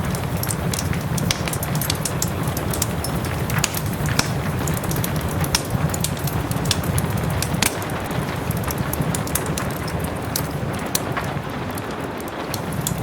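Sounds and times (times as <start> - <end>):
soft rain falling: 0.0 - 13.0
wood fire crackling: 0.0 - 13.0.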